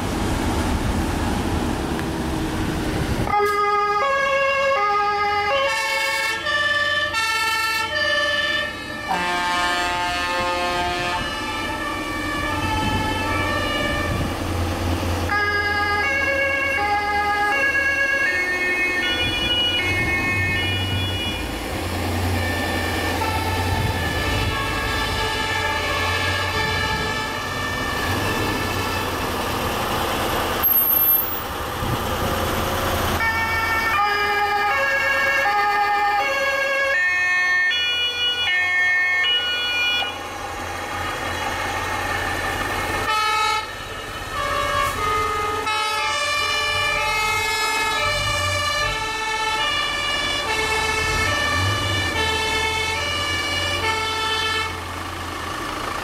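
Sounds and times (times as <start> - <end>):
truck engines driving past: 0.0 - 56.0
two-tone fire engine sirens: 2.9 - 56.0.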